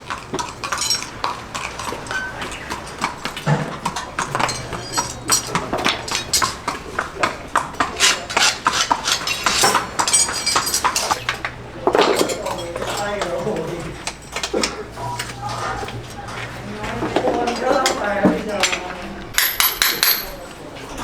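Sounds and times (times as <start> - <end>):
farrier tools clicking on hoof: 0.0 - 20.4.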